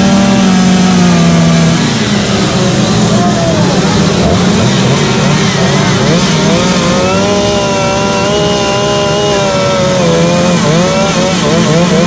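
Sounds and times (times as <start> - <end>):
chainsaw cutting wood: 0.0 - 2.1, 4.3 - 12.0.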